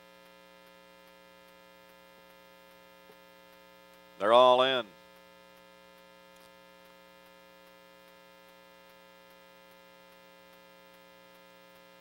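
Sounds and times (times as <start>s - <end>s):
electrical mains hum: 0.0s - 12.0s
faint high ticks: 0.0s - 12.0s.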